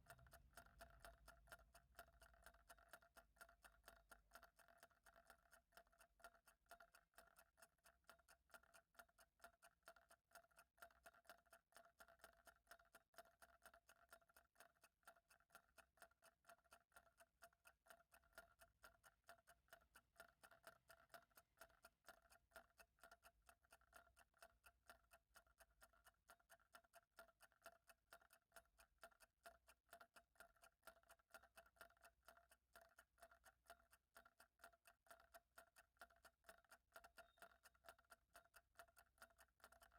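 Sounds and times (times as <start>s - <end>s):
faint clock ticking: 0.0s - 39.9s.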